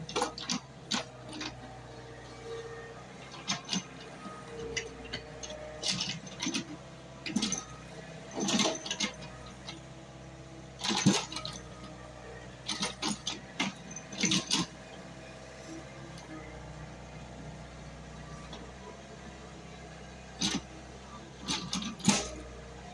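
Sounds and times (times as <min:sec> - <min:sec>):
excavator engine hum: 0:00.0 - 0:22.9.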